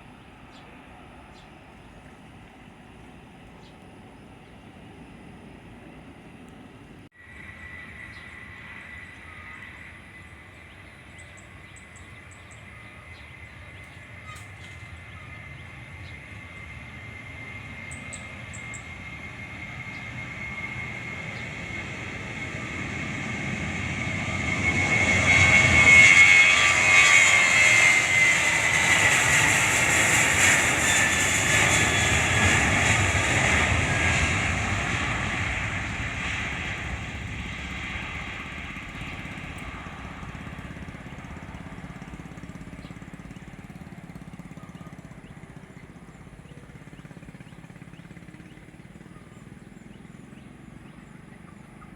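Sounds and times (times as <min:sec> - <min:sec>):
high jet engine whine: 0:00.0 - 0:51.9
jet airliner passing: 0:00.0 - 0:51.9.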